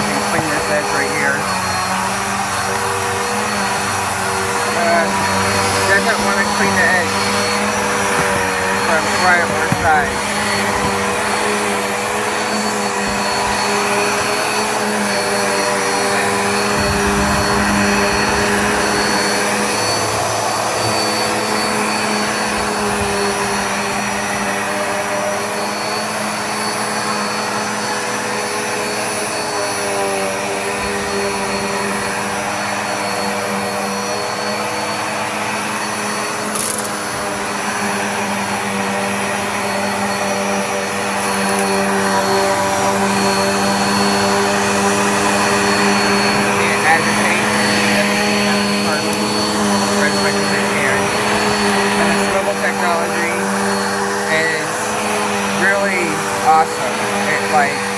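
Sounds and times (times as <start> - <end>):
upright vacuum running: 0.0 - 57.9.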